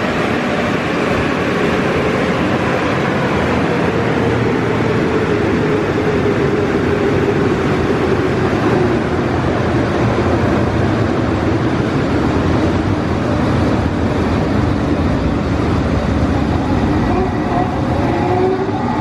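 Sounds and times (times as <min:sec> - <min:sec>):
car wash rushing noise: 0:00.0 - 0:19.0.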